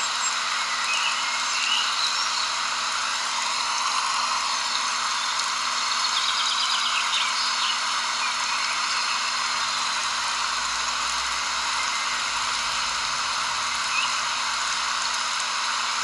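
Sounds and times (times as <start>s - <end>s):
even nature hiss: 0.5s - 15.2s.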